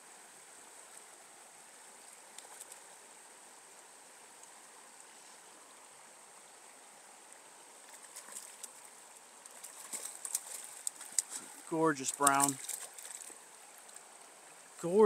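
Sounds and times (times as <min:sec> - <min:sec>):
stream rushing: 0:00.0 - 0:15.0.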